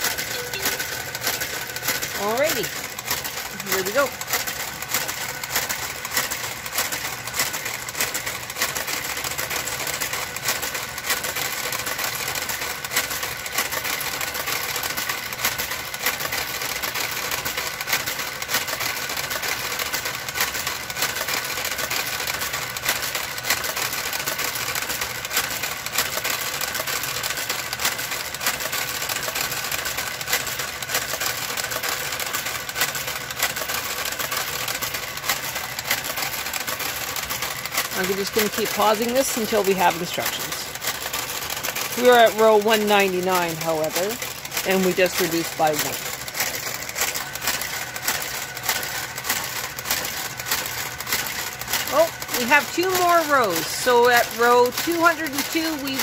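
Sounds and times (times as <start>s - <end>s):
knitting machine clicks: 0.0s - 56.0s
steady motor hum: 0.0s - 56.0s.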